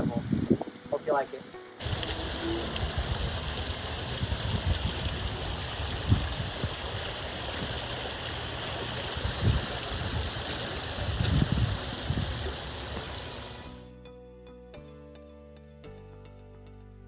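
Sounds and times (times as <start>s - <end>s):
fountain water splashing: 0.0s - 13.8s.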